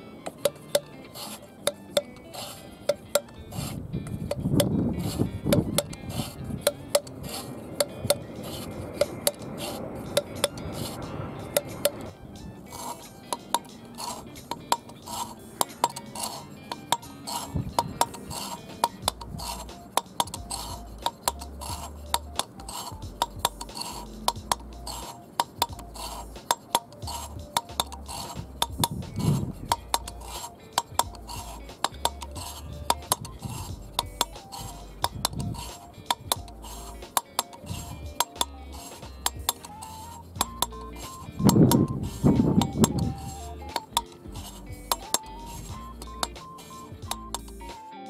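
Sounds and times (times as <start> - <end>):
valve lapping clicks and scraping: 0.0 - 47.8
background music with bass: 0.0 - 48.0.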